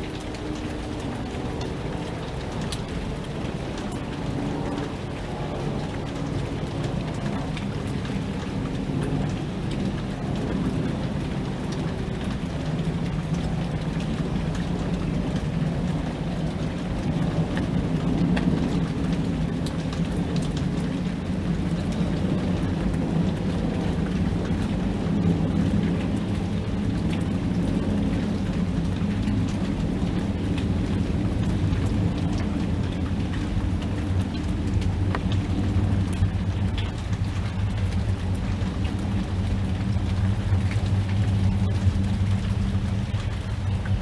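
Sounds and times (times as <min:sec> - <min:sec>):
rain drops ticking: 0:00.0 - 0:44.0
rolling thunder rumble: 0:00.0 - 0:44.0.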